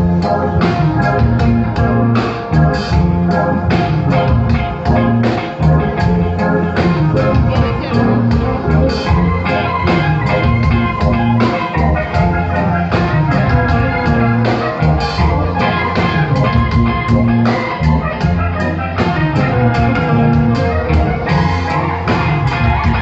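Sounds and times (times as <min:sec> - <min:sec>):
live band playing: 0:00.0 - 0:23.0
steady drum beat: 0:00.0 - 0:23.0.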